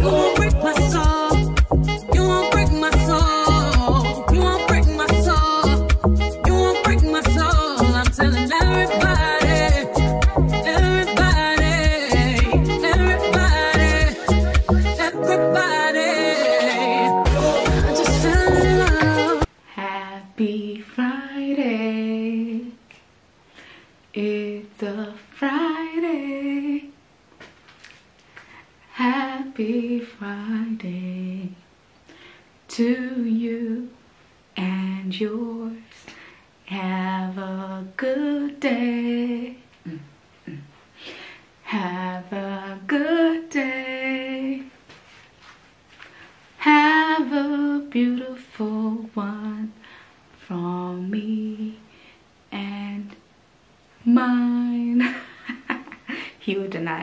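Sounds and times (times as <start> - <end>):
woman singing unaccompanied: 0.0 - 22.9, 24.1 - 27.0, 28.9 - 31.7, 32.7 - 36.0, 36.6 - 40.6, 41.6 - 44.8, 46.6 - 49.8, 50.4 - 51.9, 52.5 - 53.2, 54.0 - 55.2.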